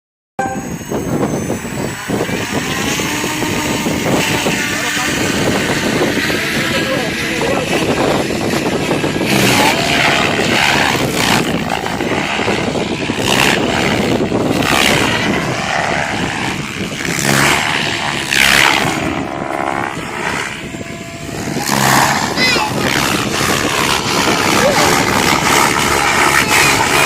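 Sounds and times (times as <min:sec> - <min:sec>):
electric motor whine: 0:00.4 - 0:27.0
rc helicopter rotor whooshing: 0:00.4 - 0:27.0.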